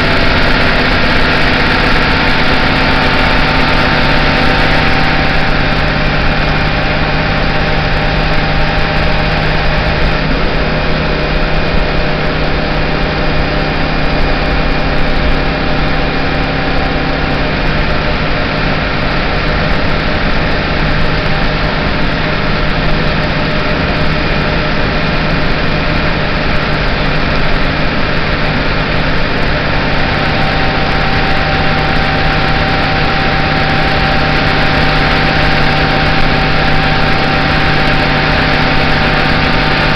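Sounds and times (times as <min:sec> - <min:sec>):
bus engine low hum: 0:00.0 - 0:39.9
engine whine: 0:00.0 - 0:39.9
road noise: 0:00.0 - 0:39.9.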